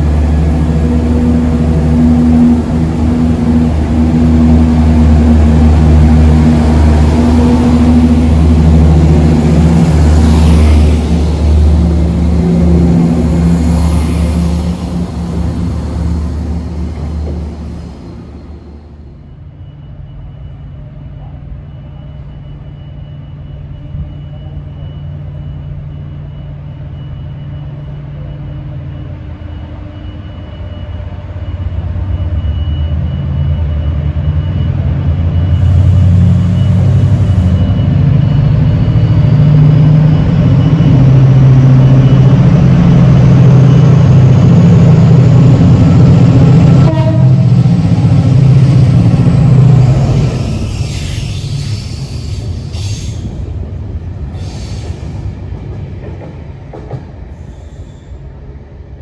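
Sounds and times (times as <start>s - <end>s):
diesel train engine drone: 0.0s - 59.0s.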